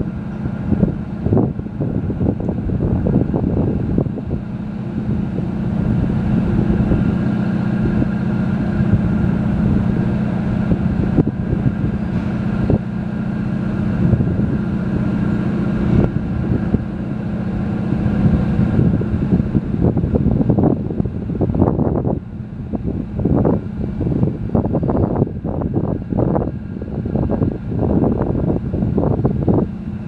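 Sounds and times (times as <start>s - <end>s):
ferry diesel engines droning: 0.0s - 30.0s
wind buffeting microphone: 0.0s - 30.0s.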